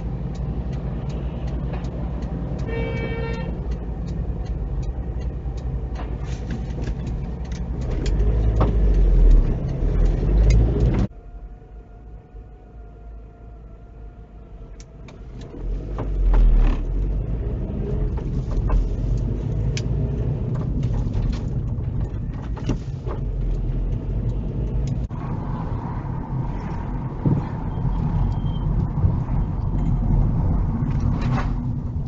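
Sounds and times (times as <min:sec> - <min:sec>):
road noise: 0:00.0 - 0:32.0.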